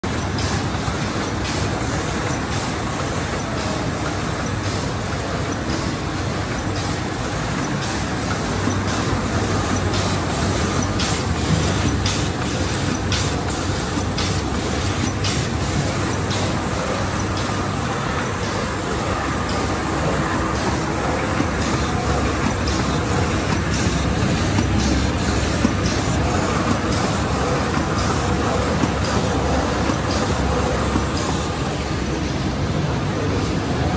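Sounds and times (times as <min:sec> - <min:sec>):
regular mechanical ticking: 0:00.0 - 0:31.6
printing press running: 0:00.0 - 0:33.9.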